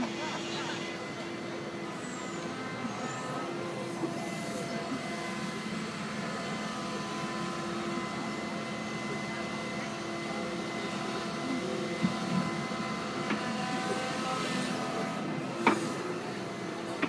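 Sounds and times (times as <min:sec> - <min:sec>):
hydraulic whine: 0:00.0 - 0:17.0.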